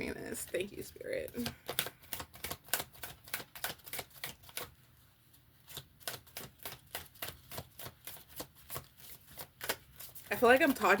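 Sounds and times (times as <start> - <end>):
cards being shuffled: 1.1 - 11.0.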